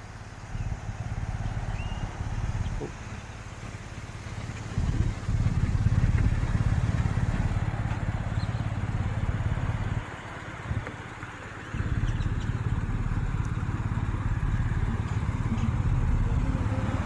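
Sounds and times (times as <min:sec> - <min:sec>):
vehicle engine pulsing rumble: 0:00.0 - 0:17.0.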